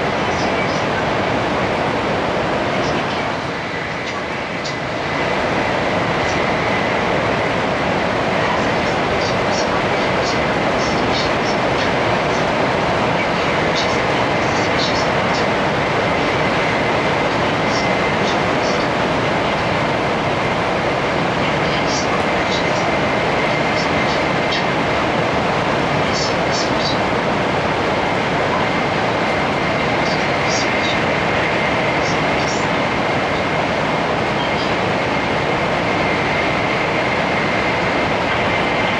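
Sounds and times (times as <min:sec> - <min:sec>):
train running noise from inside: 0:00.0 - 0:38.9.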